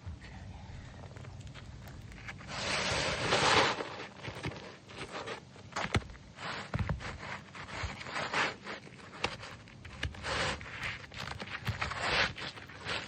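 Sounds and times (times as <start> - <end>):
roof shingles being scraped: 2.2 - 13.0.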